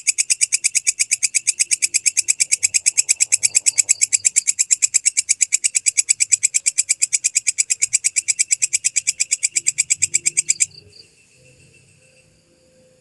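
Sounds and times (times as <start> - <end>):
insect chirping rapidly: 0.0 - 13.0.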